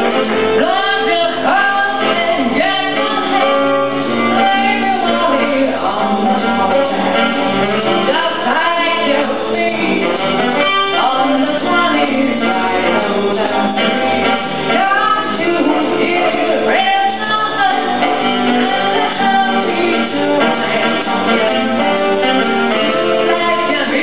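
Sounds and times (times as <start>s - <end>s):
instrumental accompaniment: 0.0s - 24.0s
person singing live: 0.0s - 24.0s.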